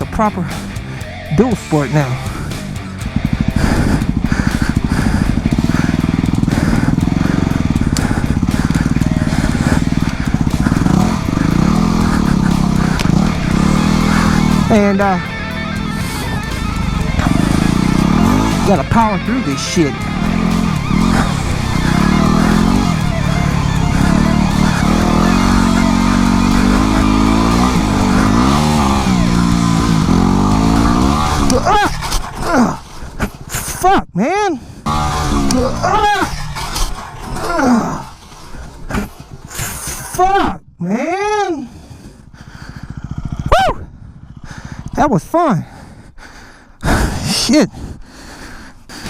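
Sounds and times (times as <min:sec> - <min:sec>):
motorcycle engine running: 0:00.0 - 0:33.5, 0:34.8 - 0:40.4, 0:41.3 - 0:47.2.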